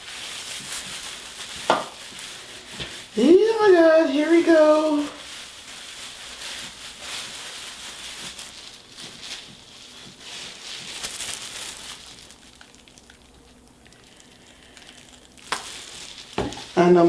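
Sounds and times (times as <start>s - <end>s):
soft crackling rustle of wet hair: 0.0s - 17.0s.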